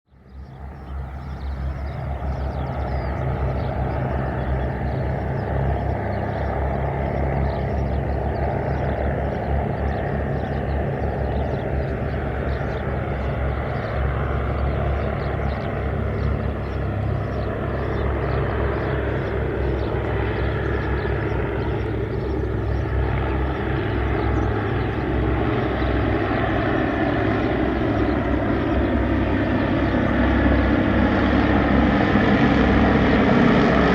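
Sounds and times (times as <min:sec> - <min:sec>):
aircraft piston engine and propeller: 0:00.1 - 0:33.9.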